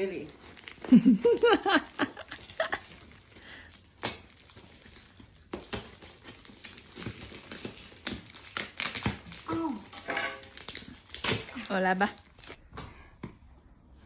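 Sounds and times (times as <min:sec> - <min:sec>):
plastic film crinkling and tearing: 0:00.0 - 0:12.6.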